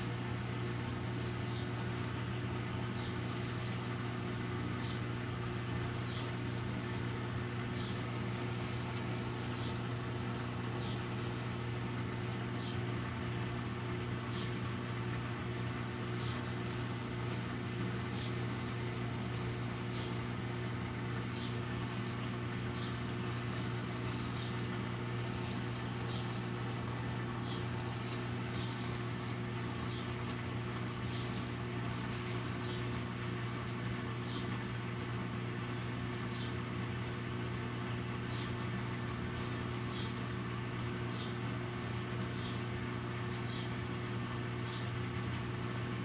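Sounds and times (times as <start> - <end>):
washing machine humming: 0.0 - 46.0.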